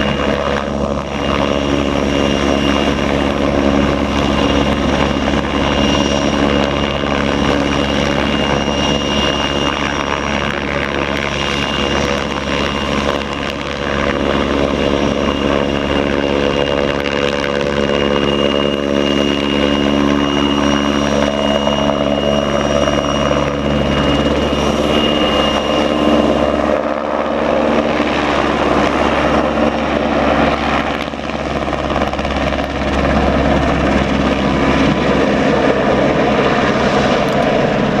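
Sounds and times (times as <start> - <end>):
helicopter rotor beat: 0.0 - 38.0
turbine engines: 0.0 - 38.0.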